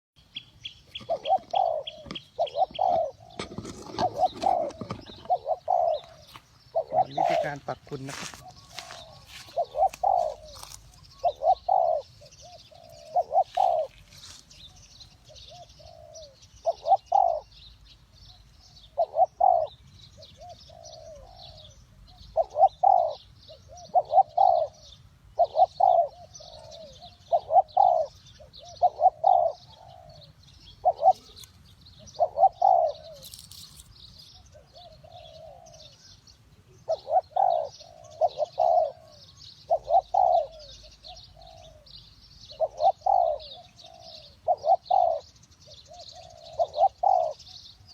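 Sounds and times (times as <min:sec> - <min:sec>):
doves cooing: 0:00.8 - 0:17.7, 0:18.3 - 0:47.9.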